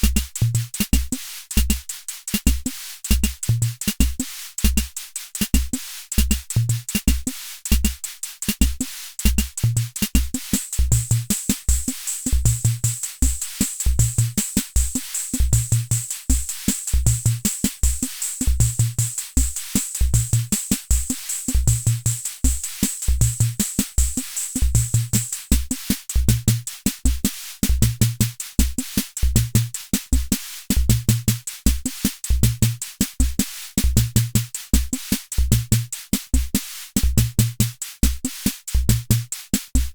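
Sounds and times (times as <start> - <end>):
fast hi-hat ticks: 0.0 - 39.9.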